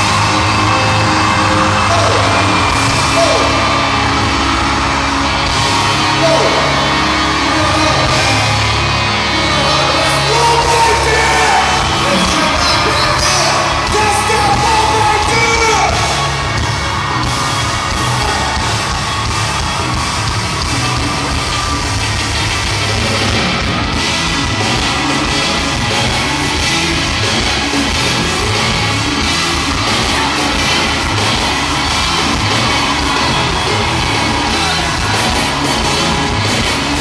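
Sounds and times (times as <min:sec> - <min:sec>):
amplified pop backing track: 0:00.0 - 0:37.0
fans yelling: 0:00.0 - 0:37.0.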